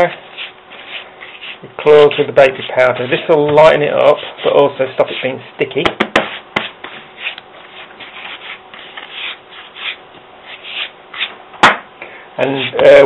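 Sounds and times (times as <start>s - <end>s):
hands rubbing powder: 0.0s - 5.4s, 6.2s - 11.3s.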